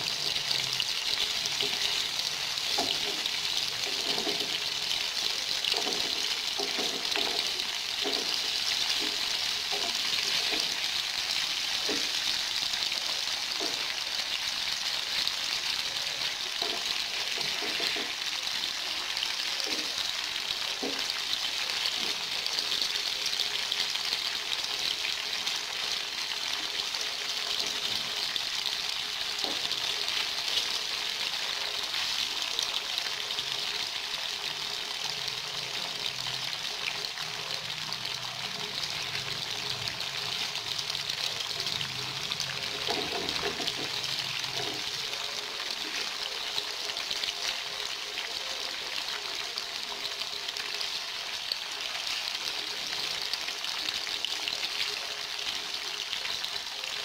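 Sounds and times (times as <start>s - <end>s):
tofu sizzling in hot oil: 0.0s - 57.0s.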